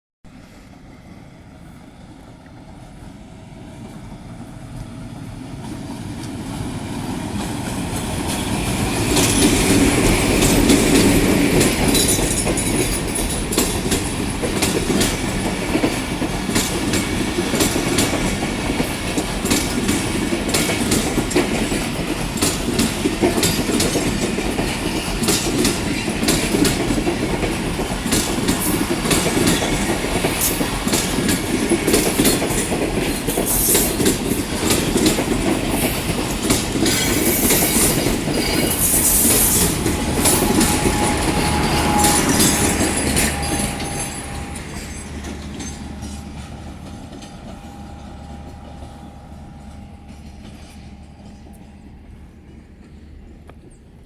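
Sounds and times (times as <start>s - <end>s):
train rumble: 0.3s - 54.0s
train wheels clicking over rail joints: 3.8s - 54.0s.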